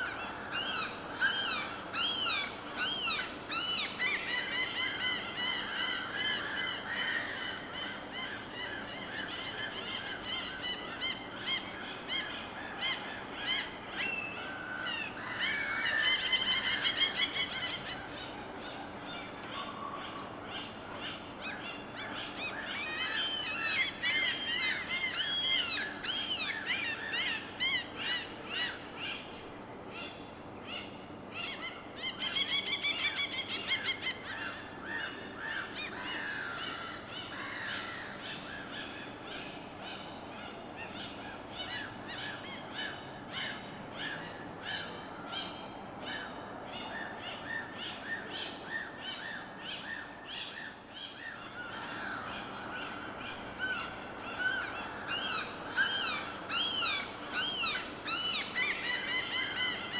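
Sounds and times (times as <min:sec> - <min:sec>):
birds singing and calling: 0:00.0 - 0:29.3, 0:30.0 - 0:59.9.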